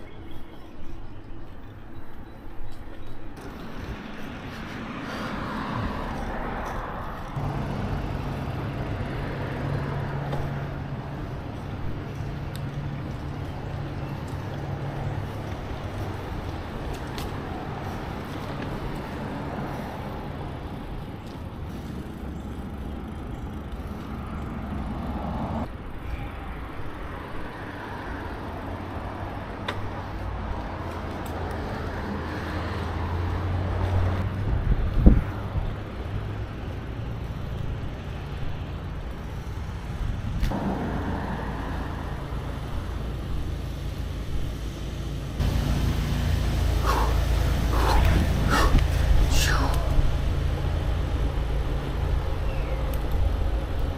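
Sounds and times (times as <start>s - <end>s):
motor vehicles passing: 0.0s - 53.9s
road and wind rumble: 0.0s - 53.9s.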